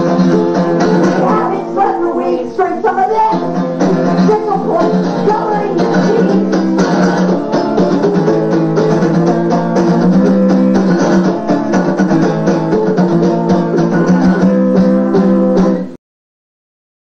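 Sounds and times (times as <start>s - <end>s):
loud rhythmic guitar strumming: 0.0s - 16.0s.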